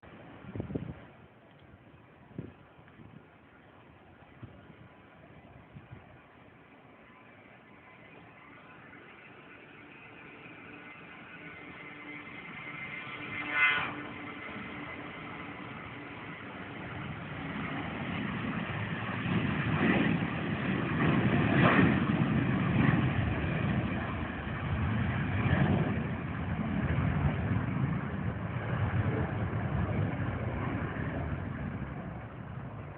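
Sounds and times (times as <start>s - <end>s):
jet engines at takeoff: 0.0s - 32.9s.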